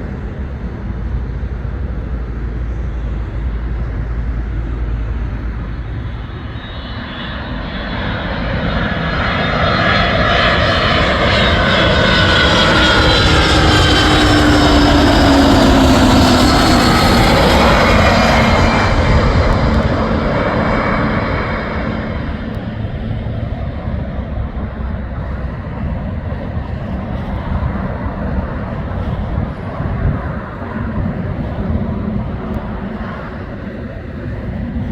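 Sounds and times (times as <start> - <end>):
airplane passing close by: 0.0 - 34.9.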